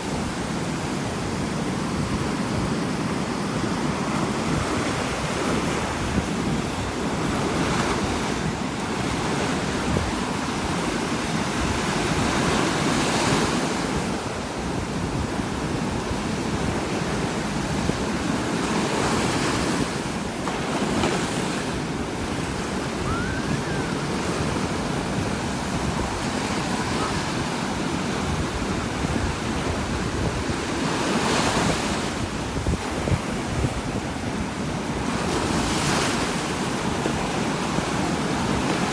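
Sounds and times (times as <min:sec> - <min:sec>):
heavy surf breaking on beach: 0:00.0 - 0:38.9.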